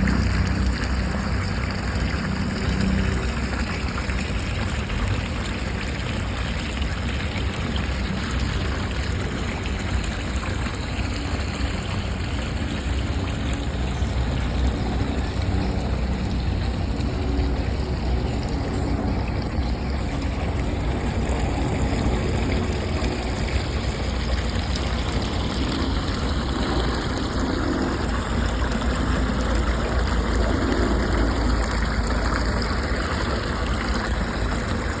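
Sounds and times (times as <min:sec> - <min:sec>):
small stream trickling: 0:00.0 - 0:35.0.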